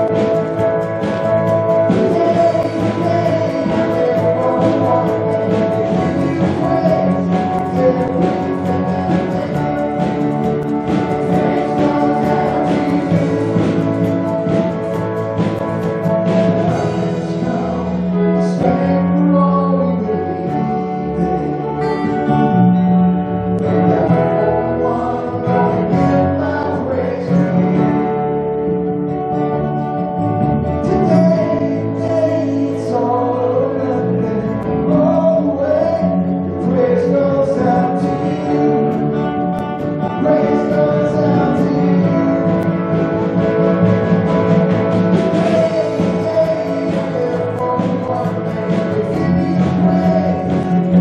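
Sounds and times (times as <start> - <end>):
acoustic guitar: 0.0 - 51.0
electric bass guitar: 0.0 - 51.0
keyboard: 0.0 - 51.0
people singing: 1.8 - 22.5, 23.6 - 28.3, 30.8 - 51.0.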